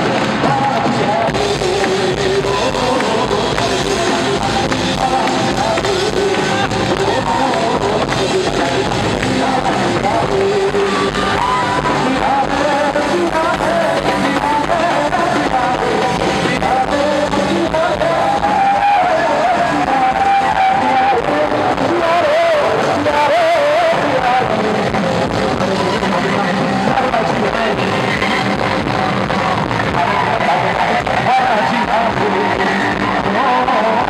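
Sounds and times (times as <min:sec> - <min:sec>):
band accompaniment: 0:00.0 - 0:34.0
man singing into microphone: 0:00.0 - 0:34.0.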